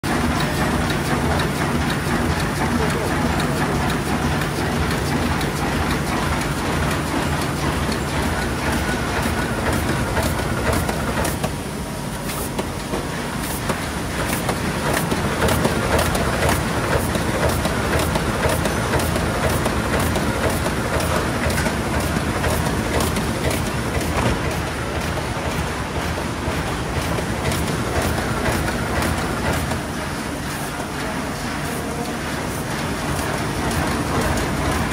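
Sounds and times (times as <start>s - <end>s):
sewing machine mechanical clatter: 0.1s - 34.9s.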